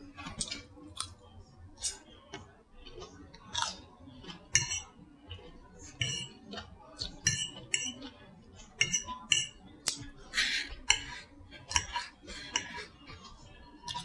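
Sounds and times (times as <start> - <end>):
crunchy chewing: 0.1 - 14.0
fork clicking on a plate: 0.2 - 1.2, 1.8 - 14.0.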